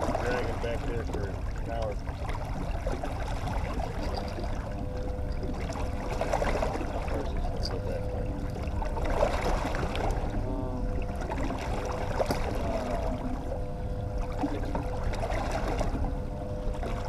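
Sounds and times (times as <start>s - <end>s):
boat motor running: 0.0s - 17.0s
water washing along hull: 0.0s - 17.0s.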